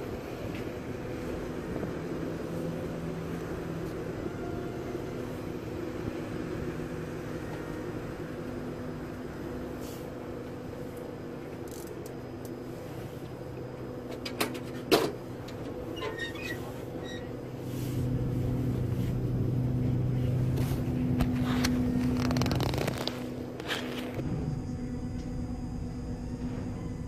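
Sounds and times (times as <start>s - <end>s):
ferry engines humming: 0.0s - 27.0s.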